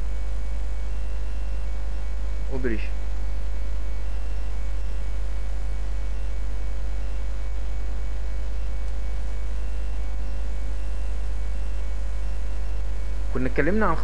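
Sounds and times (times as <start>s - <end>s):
low electrical mains hum: 0.0s - 14.0s.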